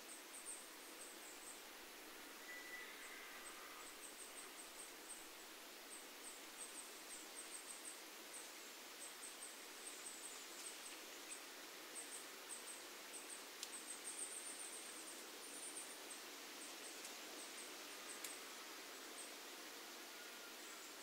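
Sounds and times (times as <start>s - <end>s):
leaves rustling in wind: 0.0s - 21.0s.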